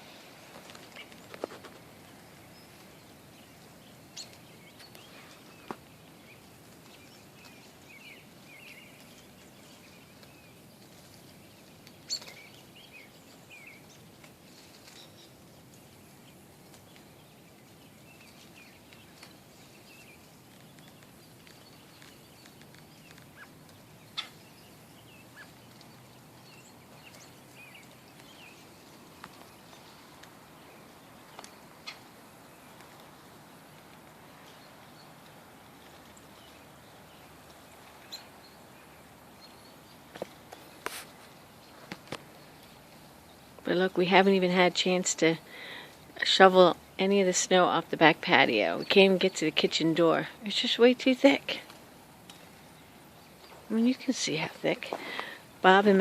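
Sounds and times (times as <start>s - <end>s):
birds chirping: 0.0s - 56.0s
low hiss: 0.0s - 56.0s.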